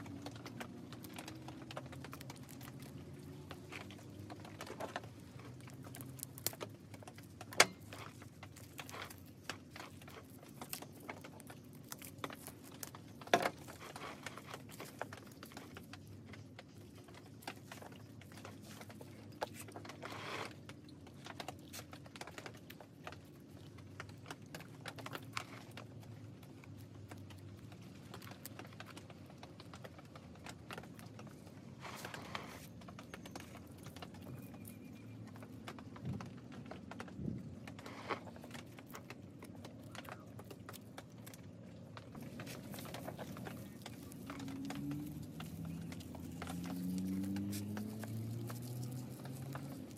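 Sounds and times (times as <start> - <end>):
small clicks and taps: 0.0 - 49.9
soil and roots rustling: 0.0 - 49.9.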